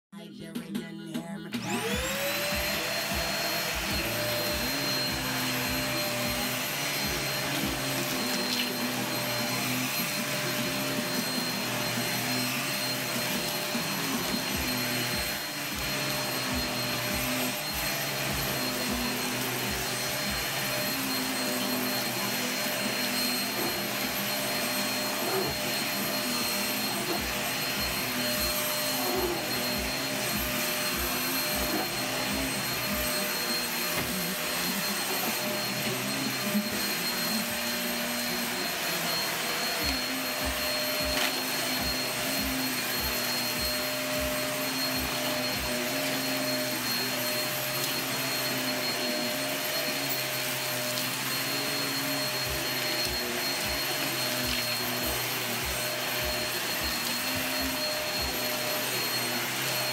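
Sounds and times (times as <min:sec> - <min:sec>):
vacuum cleaner motor running: 0:01.5 - 0:59.9.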